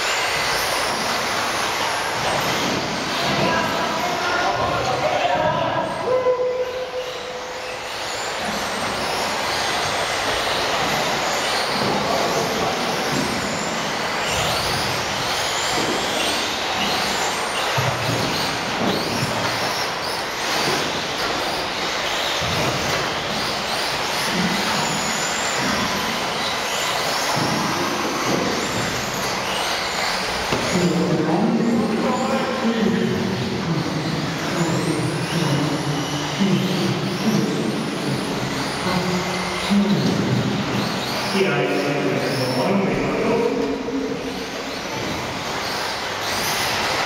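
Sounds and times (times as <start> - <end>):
rc cars motors whining: 0.0 - 47.0.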